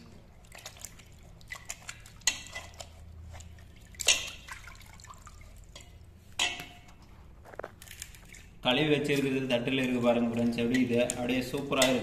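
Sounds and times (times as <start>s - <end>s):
water splashing in steel pot: 0.0s - 7.1s, 7.8s - 12.0s.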